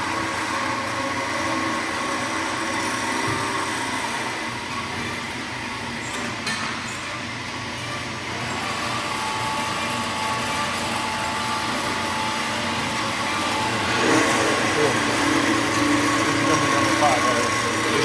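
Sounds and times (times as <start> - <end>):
metal-cutting bandsaw running: 0.0 - 18.0.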